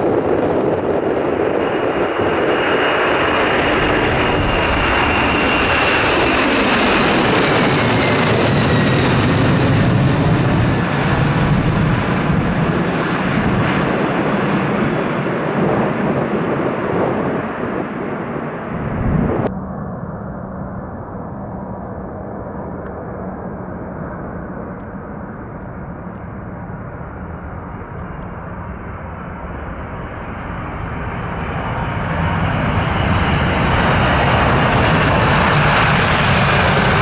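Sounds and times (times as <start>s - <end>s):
airplane engines passing: 0.0s - 37.0s.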